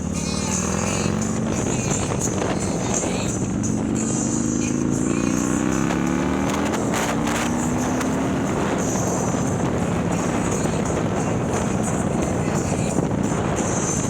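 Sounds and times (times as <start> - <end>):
motorcycle engine accelerating: 0.0 - 14.0
rushing wind: 0.0 - 14.0.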